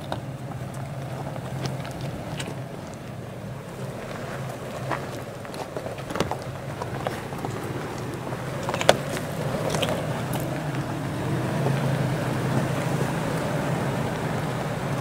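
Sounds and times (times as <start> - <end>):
engine running at low revs: 0.0 - 15.0
tyres crunching on gravel: 0.0 - 15.0.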